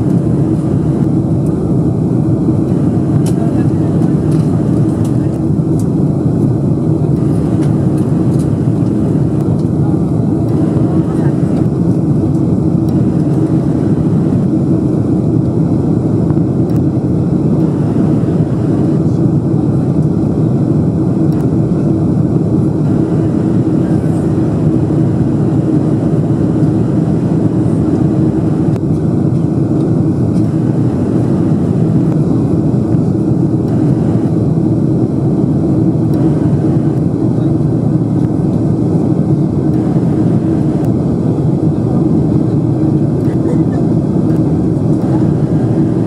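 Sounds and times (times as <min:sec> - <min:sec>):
jet engines and rushing air: 0:00.0 - 0:46.0
low hum: 0:00.0 - 0:46.0.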